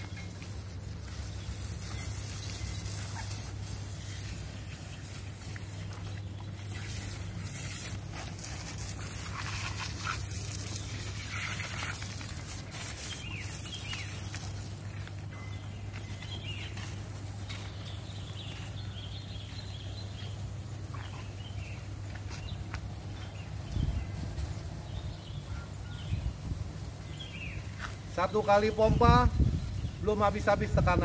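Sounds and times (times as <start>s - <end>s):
constant high hiss: 0.0s - 31.0s.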